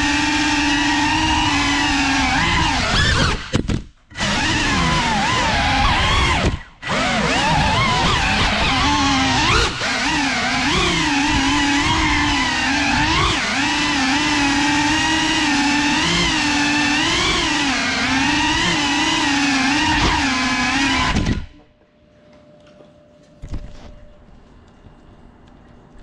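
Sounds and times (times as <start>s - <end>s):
drone motors whining: 0.0s - 21.8s.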